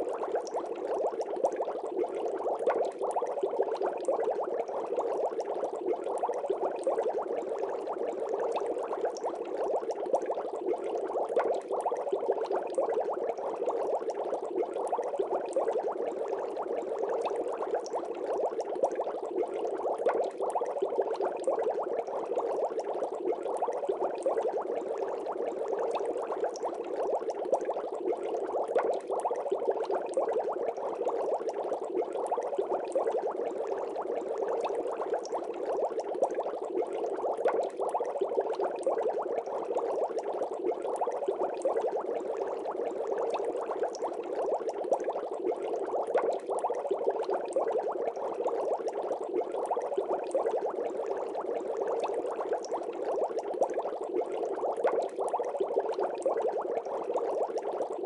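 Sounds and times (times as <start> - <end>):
water bubbling: 0.0 - 58.0.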